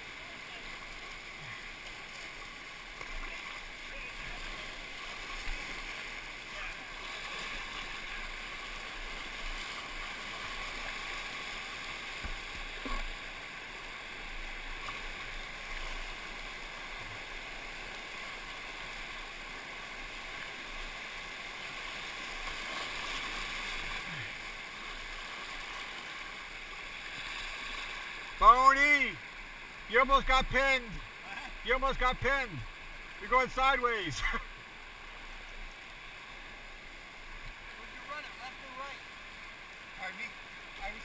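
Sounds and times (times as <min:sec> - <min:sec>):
whitewater rushing over rocks: 0:00.0 - 0:41.0.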